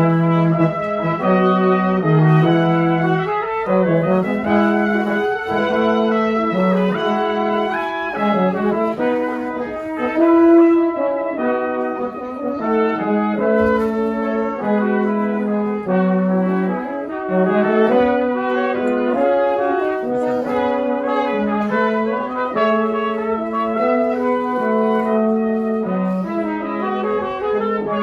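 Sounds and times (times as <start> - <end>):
brass quartet playing chords: 0.0 - 28.0.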